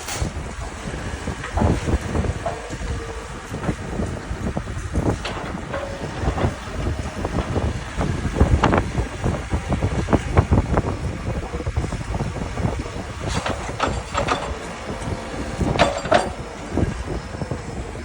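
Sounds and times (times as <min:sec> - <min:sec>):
heavy equipment rumbling: 0:00.0 - 0:18.0.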